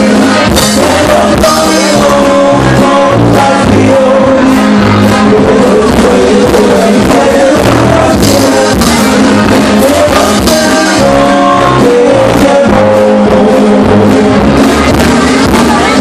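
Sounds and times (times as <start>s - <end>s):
live band playing amplified music: 0.0s - 16.0s
person singing: 0.0s - 16.0s
steady bass pulse: 0.0s - 16.0s.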